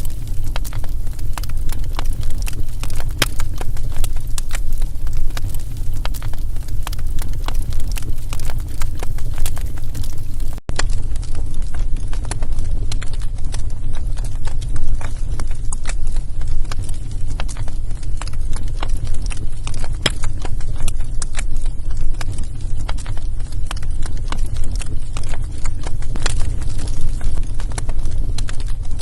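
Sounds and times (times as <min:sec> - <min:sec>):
logs crackling and popping: 0:00.0 - 0:29.0
low rumble of flame: 0:00.0 - 0:29.0.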